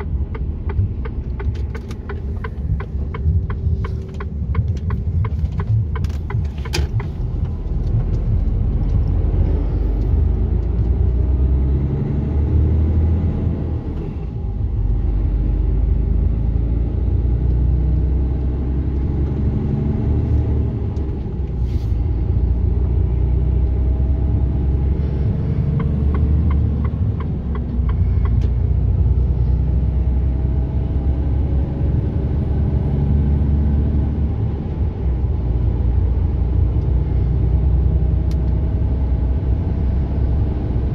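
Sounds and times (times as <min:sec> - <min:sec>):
diesel truck engine rumble: 0:00.0 - 0:40.9
tyres on road: 0:00.0 - 0:40.9.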